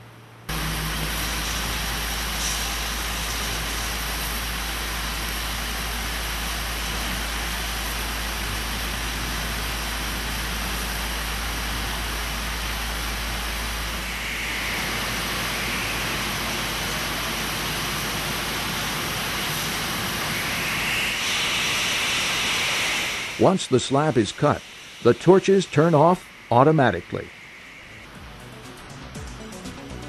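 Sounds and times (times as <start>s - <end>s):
cutting torch hissing: 0.5s - 28.2s.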